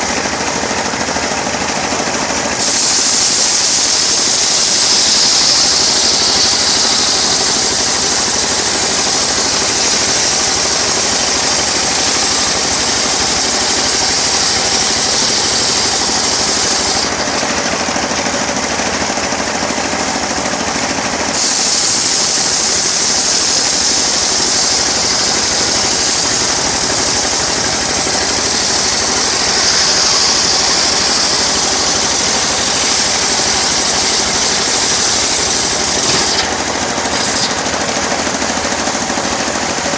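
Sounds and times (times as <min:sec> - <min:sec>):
sawmill engine running: 0:00.0 - 0:39.9
saw blade cutting wood hiss: 0:02.2 - 0:39.5.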